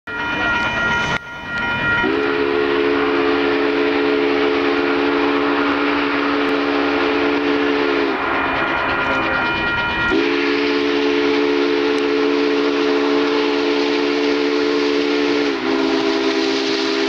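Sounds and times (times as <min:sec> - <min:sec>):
high steady tone: 0:00.1 - 0:17.0
steam locomotive whistle: 0:00.1 - 0:17.0.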